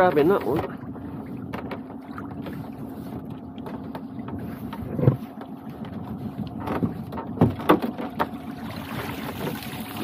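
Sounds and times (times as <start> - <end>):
steady low hum: 0.0 - 10.0
water splashing and streaming: 0.0 - 10.0.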